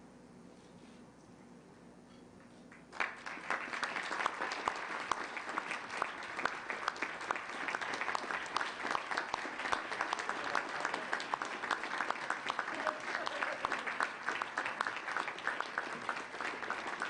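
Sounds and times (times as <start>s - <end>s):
audience applauding: 2.7s - 17.0s.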